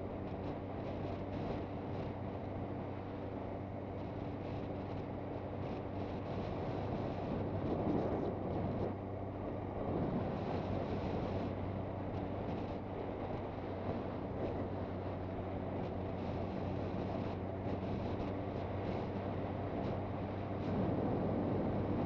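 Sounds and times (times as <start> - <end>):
motorcycle engine hum: 0.0 - 22.0
wind rush on microphone: 0.0 - 22.0.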